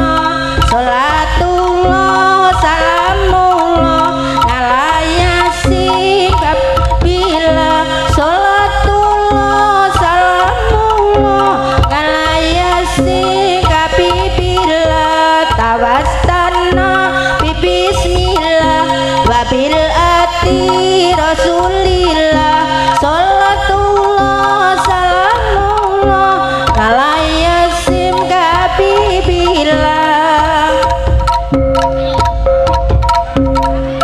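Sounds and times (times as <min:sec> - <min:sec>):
hand drums beating: 0:00.0 - 0:34.0
held ringing tone: 0:00.0 - 0:34.0
sliding melody line: 0:00.0 - 0:34.0.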